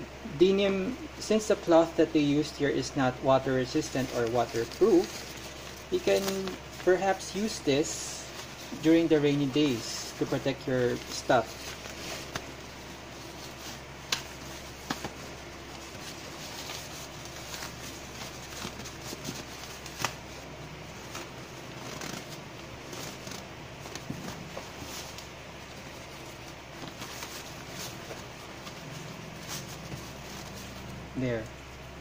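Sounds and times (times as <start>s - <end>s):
rain cover rustling and crinkling: 3.6s - 30.9s.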